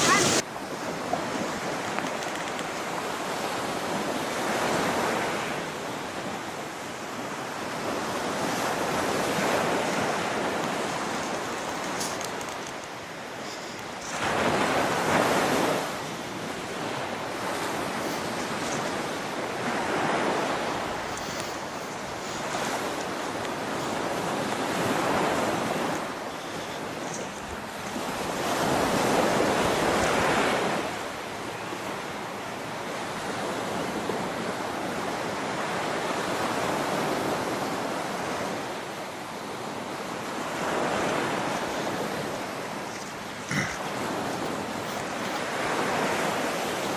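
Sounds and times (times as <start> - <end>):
rushing water: 0.0 - 46.9.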